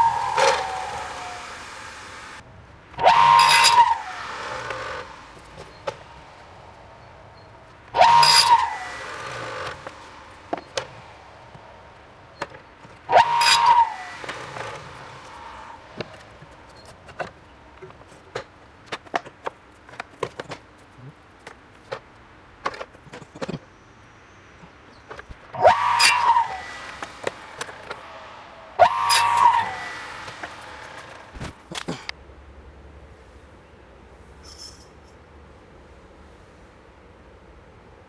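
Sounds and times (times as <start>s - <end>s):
miter saw cutting: 0.0s - 23.6s, 24.6s - 32.1s.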